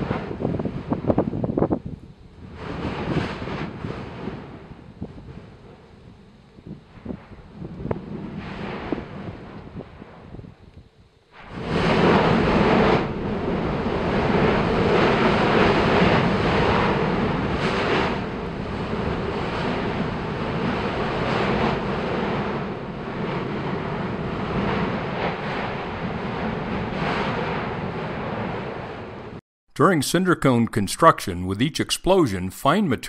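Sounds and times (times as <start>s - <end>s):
volcano eruption rushing noise: 0.0s - 29.4s.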